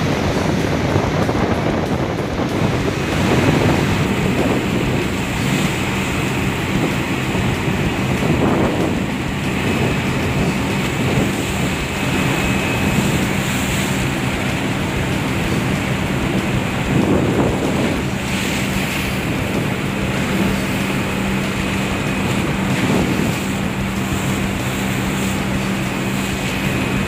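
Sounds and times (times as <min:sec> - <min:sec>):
sea breaking against ship hull: 0:00.0 - 0:27.0
ship engine drone: 0:00.0 - 0:27.0
wind buffeting microphone: 0:00.0 - 0:27.0.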